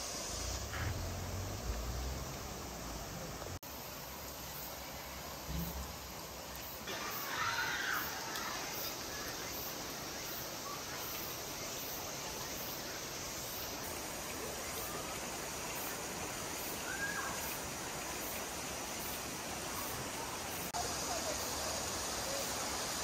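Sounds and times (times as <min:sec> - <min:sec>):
rushing water in channel: 0:00.0 - 0:23.0
faint chirp: 0:04.3 - 0:23.0.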